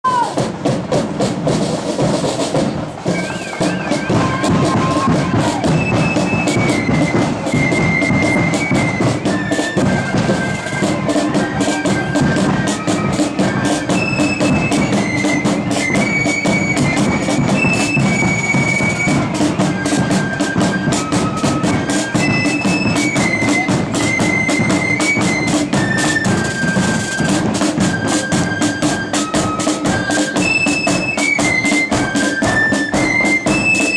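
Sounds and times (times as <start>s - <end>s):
side drums and bass drum: 0.0s - 33.9s
flutes playing a march tune: 0.1s - 33.9s.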